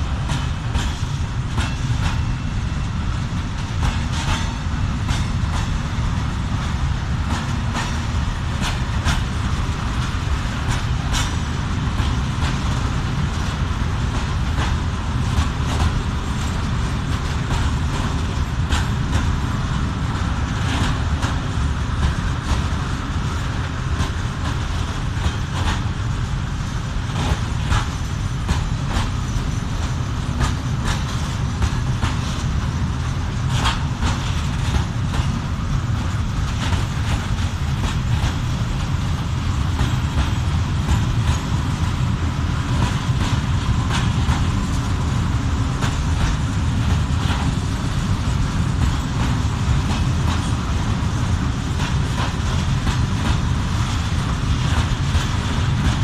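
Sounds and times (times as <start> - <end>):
freight wagons rumbling past: 0.0 - 56.0
wheels clanking over rail joints: 0.0 - 56.0.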